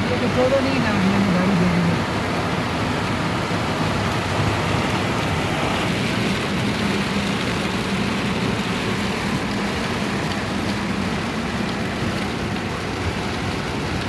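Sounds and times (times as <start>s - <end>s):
heavy rain on a car: 0.0s - 14.0s
low vehicle hum: 0.0s - 14.0s.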